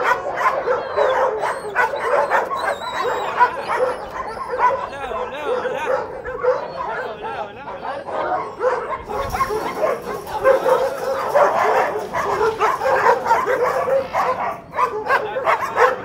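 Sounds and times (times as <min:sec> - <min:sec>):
small dogs barking and yipping: 0:00.0 - 0:16.0.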